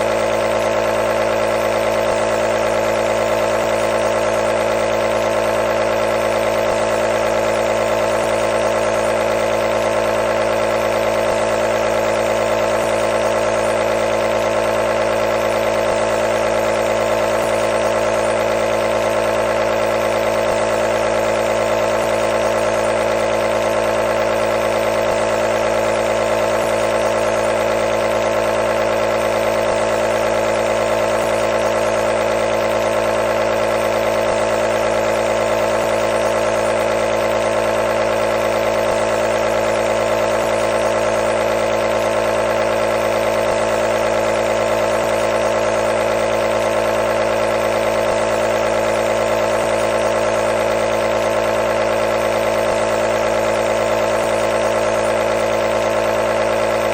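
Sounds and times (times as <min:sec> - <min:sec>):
nebulizer humming and hissing: 0:00.0 - 0:56.9.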